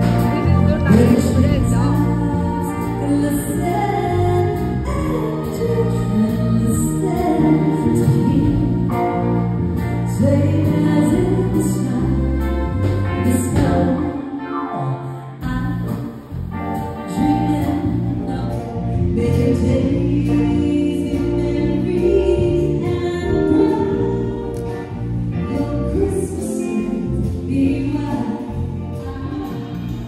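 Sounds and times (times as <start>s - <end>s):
live band playing: 0.0s - 30.0s
person singing: 0.0s - 30.0s.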